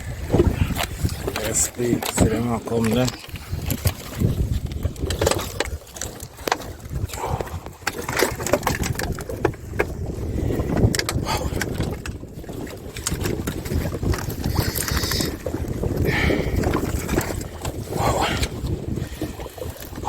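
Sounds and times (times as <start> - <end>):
water washing against hull: 0.0 - 20.0
wind buffeting microphone: 0.0 - 20.0
knocks and clatter on board: 0.3 - 20.0.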